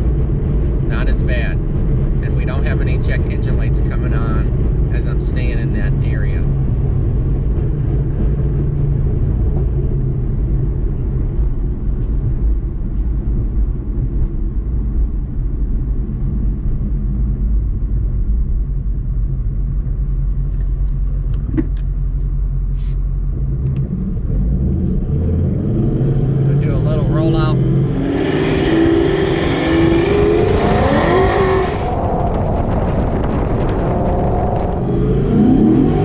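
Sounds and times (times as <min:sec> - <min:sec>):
car engine low rumble in cabin: 0:00.0 - 0:36.0.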